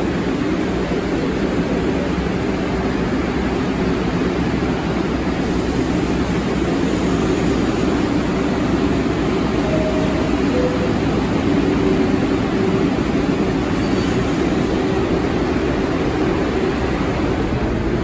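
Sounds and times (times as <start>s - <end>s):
subway train rumbling hum: 0.0s - 18.0s.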